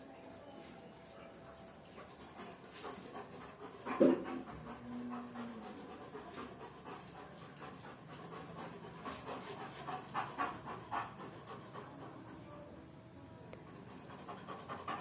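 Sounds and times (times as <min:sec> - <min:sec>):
dog panting: 0:01.4 - 0:12.8, 0:13.6 - 0:15.0.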